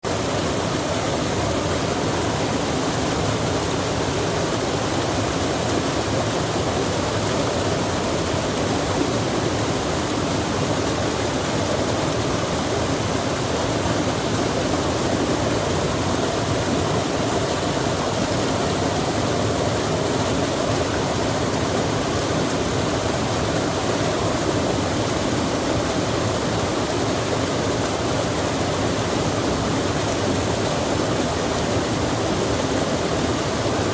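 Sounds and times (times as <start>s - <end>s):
rush of running water: 0.0s - 33.9s.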